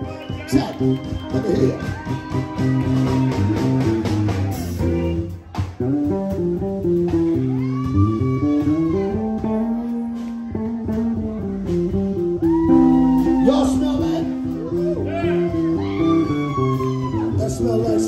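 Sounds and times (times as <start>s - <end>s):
bass guitar: 0.0s - 18.0s
electric guitar solo: 0.0s - 18.0s.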